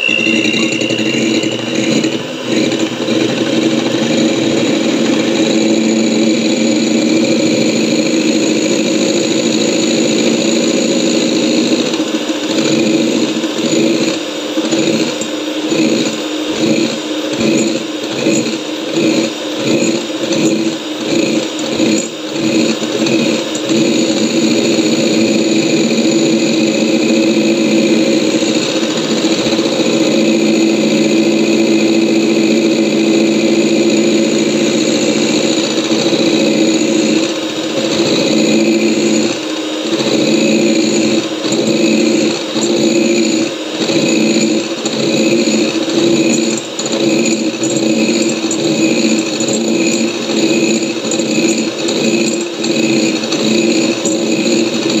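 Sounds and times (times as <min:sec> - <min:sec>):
electric hand mixer whipping: 0:00.0 - 0:55.0.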